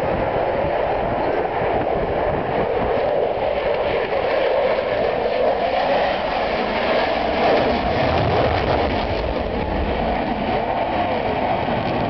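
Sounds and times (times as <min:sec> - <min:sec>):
aircraft engine overhead: 0:00.0 - 0:12.0.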